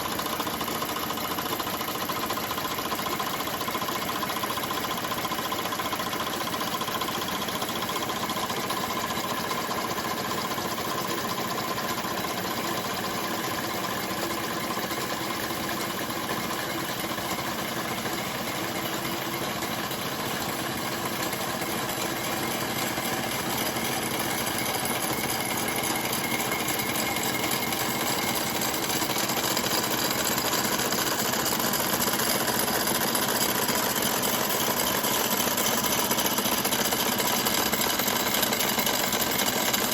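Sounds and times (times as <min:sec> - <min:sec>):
model steam engines clattering: 0:00.1 - 0:39.9.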